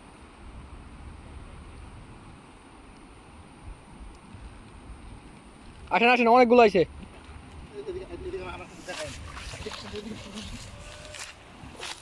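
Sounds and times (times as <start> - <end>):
background hiss: 0.0 - 12.0
wind rumbling on microphone: 0.0 - 12.0.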